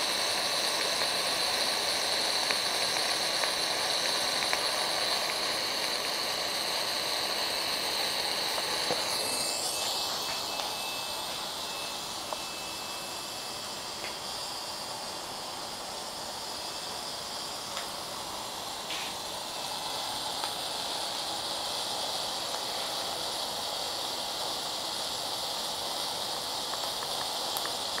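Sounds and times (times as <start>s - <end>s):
smoke generator hissing: 0.0s - 28.0s.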